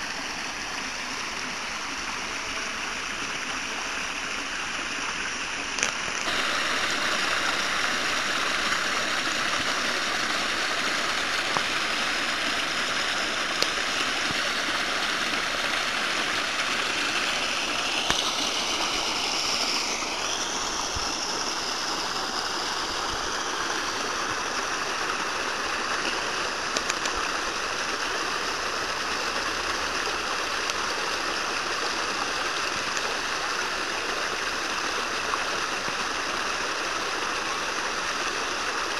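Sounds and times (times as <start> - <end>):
water flowing in a stream: 0.0 - 38.9.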